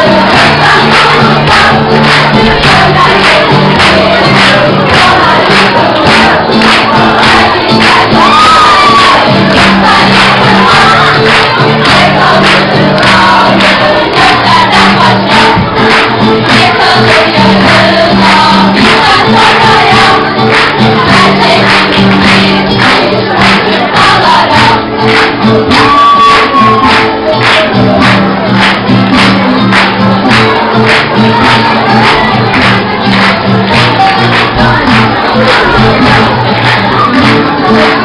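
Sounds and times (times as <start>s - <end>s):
many voices singing: 0.0s - 38.0s.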